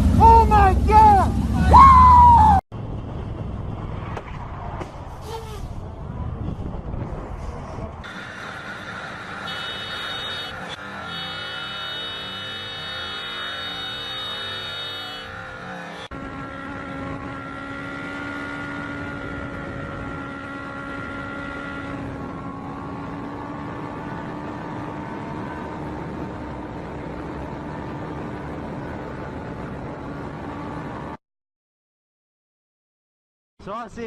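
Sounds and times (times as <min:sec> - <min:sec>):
wind and road noise: 0:00.0 - 0:31.2.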